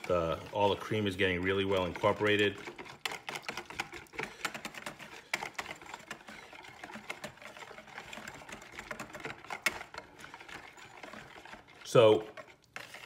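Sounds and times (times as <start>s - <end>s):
whisk clicking against bowl: 0.0s - 13.0s.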